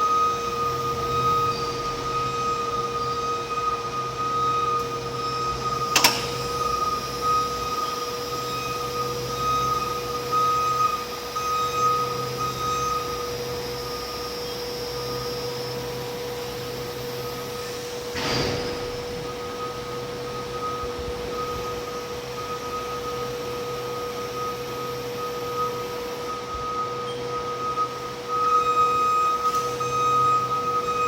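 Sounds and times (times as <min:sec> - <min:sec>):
electric truck whine and hum: 0:00.0 - 0:31.0.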